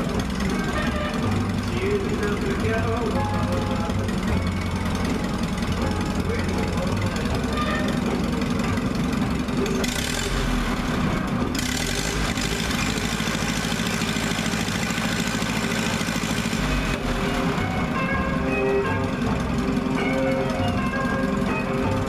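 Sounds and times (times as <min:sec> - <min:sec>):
tractor engine running slowly: 0:00.0 - 0:22.0.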